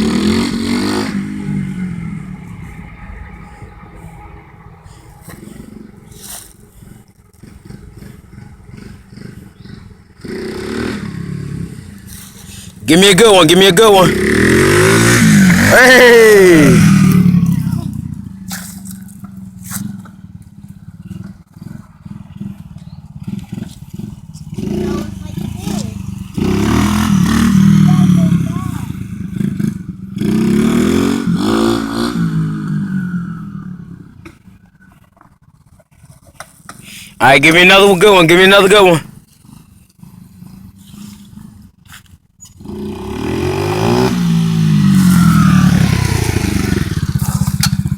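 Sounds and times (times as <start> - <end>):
dirt bike engine running: 0.0 - 36.2, 42.5 - 47.9.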